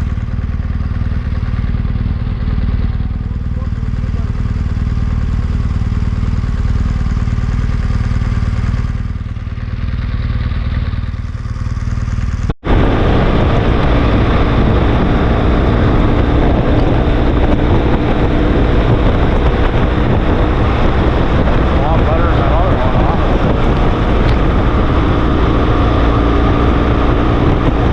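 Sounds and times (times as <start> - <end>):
engine and road rumble: 0.0 - 27.9
road and wind noise: 0.0 - 27.9.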